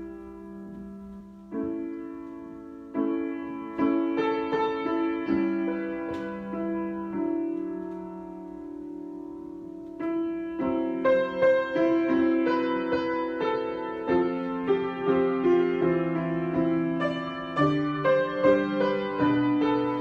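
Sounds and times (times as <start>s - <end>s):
solo piano improvisation: 0.0s - 20.0s.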